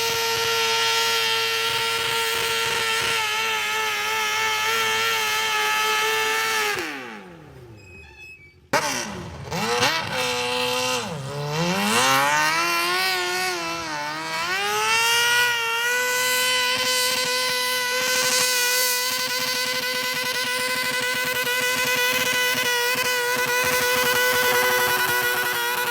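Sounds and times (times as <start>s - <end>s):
tractor engine revving: 0.0s - 7.7s, 8.7s - 25.9s.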